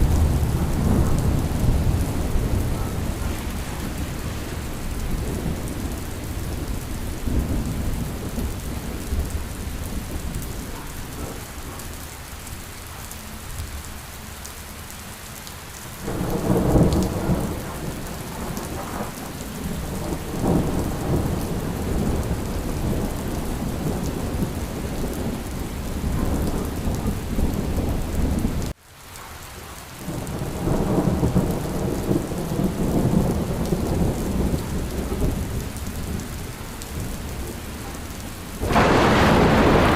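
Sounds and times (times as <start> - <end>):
rolling thunder: 0.0 - 11.8, 16.0 - 28.7, 30.1 - 39.9
steady rain: 0.0 - 39.9.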